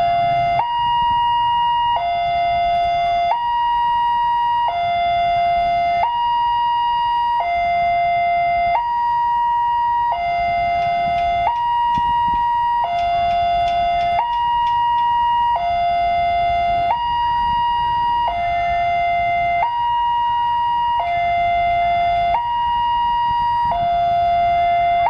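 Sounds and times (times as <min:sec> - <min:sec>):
electronic two-tone crossing alarm: 0:00.0 - 0:25.0.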